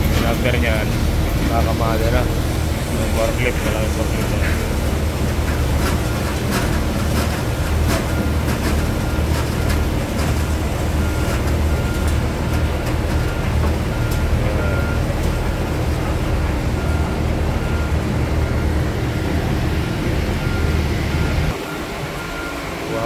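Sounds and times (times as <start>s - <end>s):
machinery low rumble: 0.0s - 23.0s.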